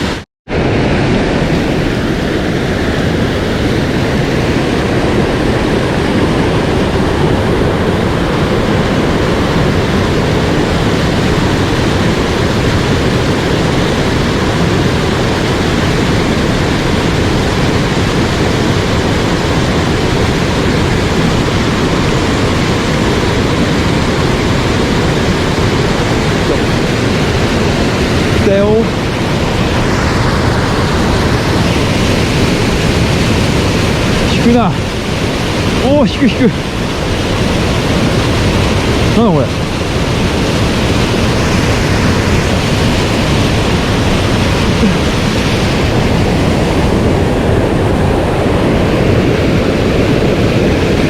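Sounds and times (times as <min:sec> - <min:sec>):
stream water rushing over rocks: 0:00.0 - 0:51.0.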